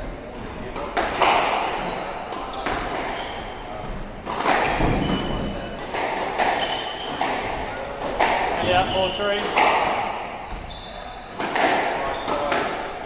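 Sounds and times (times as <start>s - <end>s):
squash ball hits echoing: 0.0s - 13.0s.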